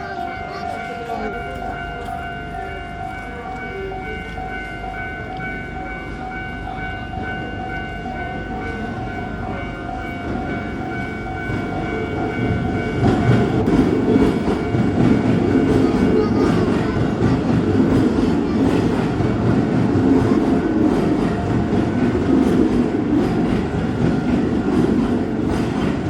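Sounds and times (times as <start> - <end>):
level crossing warning bell: 0.0 - 26.0
train wheels rumbling and clacking: 0.0 - 26.0.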